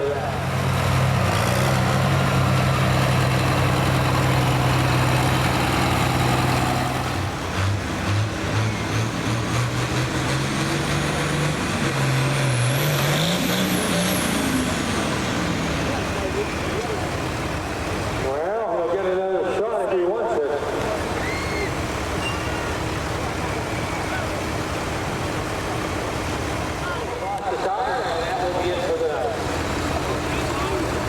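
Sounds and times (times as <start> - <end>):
heavy truck engine revving: 0.0 - 19.0, 20.6 - 31.0.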